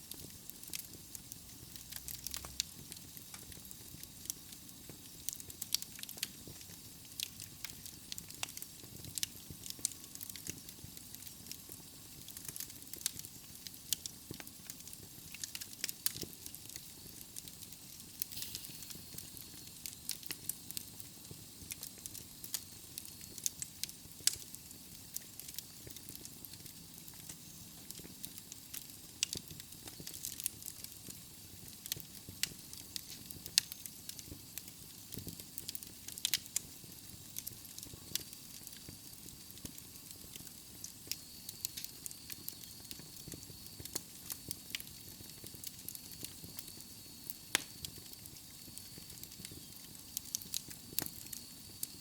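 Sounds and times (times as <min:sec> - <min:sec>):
wood fire crackling and hissing: 0:00.0 - 0:52.0.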